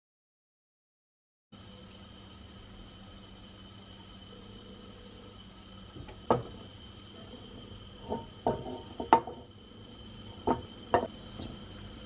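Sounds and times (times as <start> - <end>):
faint high whine: 1.6 - 12.0.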